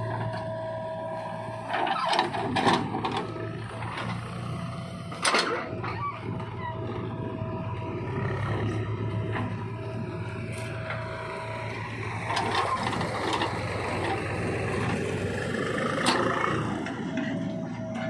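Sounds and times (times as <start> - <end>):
diesel engine running: 0.0 - 18.0
rough machine working noise: 0.0 - 18.0.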